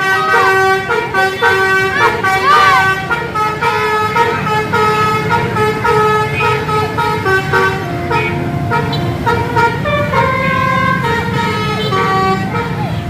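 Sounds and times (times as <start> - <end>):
musical air horn playing tune: 0.0 - 13.0.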